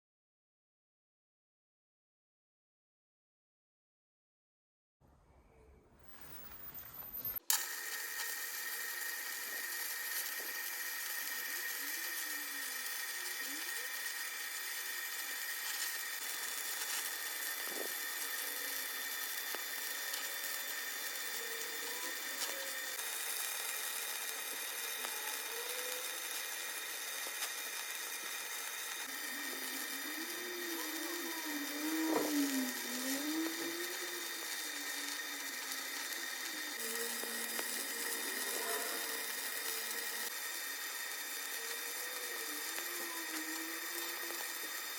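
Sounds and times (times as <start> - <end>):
faint high whine: 5.0 - 44.9
welding arc hissing and crackling: 6.0 - 44.9.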